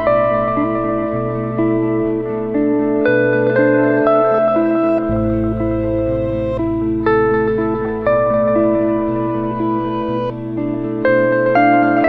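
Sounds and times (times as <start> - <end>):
solo guitar plucking: 0.0 - 12.0.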